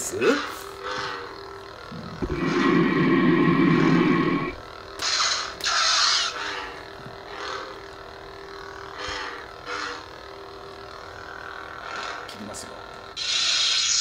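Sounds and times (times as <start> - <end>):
toy lightsaber hum: 0.0 - 12.3, 13.2 - 14.0.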